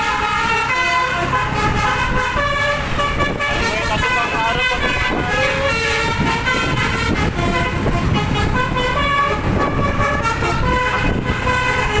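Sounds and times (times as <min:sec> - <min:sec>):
bus and traffic rumble: 0:00.0 - 0:12.0
bus musical horn: 0:00.0 - 0:12.0.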